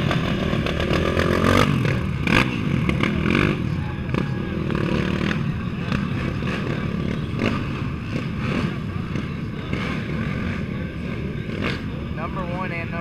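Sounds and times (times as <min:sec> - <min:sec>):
atv engines idling and blipping: 0:00.0 - 0:13.0.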